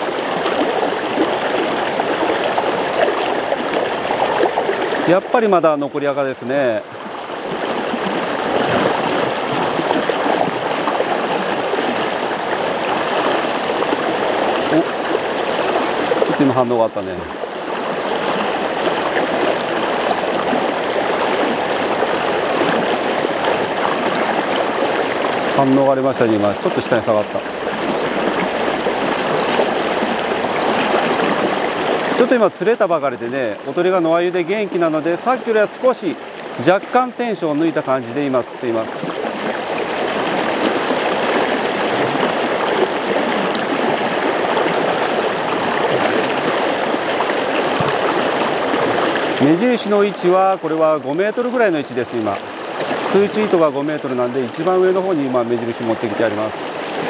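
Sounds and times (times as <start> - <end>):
fast river rushing: 0.0 - 57.0.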